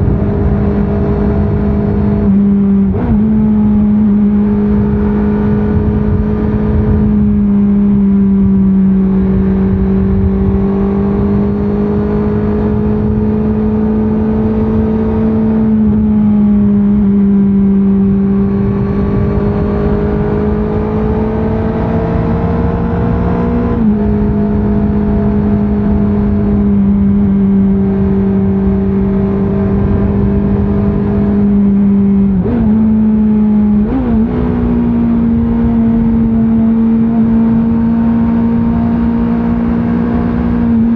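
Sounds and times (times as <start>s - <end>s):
wind and road rumble: 0.0s - 40.9s.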